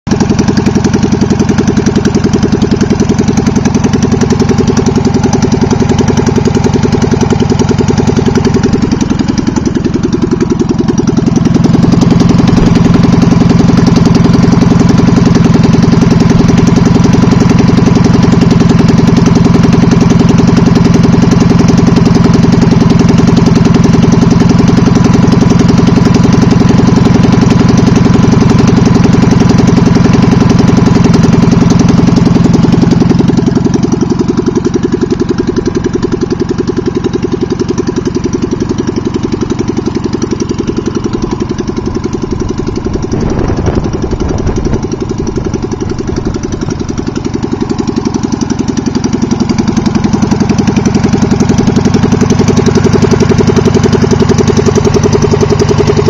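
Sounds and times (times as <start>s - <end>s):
two-cylinder engine running: 0.1s - 56.0s.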